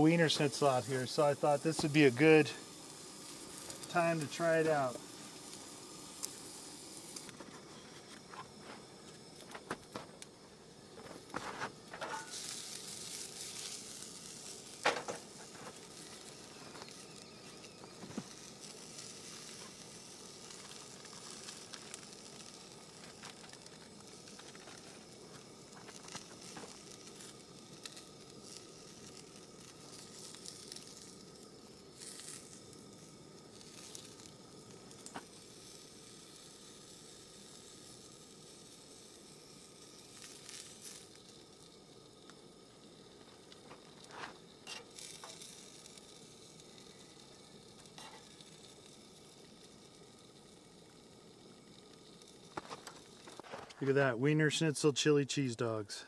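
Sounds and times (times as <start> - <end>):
hot dogs sizzling in frying pan: 0.0 - 56.0.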